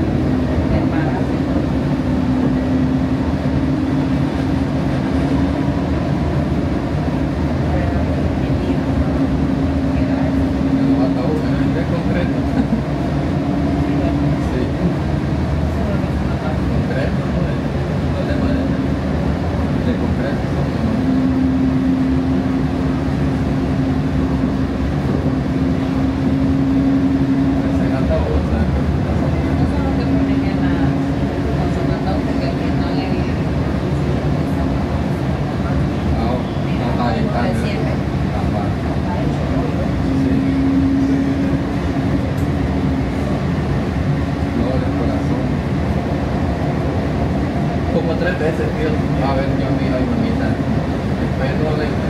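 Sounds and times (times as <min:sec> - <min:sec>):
steady low hum: 0:00.0 - 0:52.0
train wheels rumbling on rail: 0:00.0 - 0:52.0.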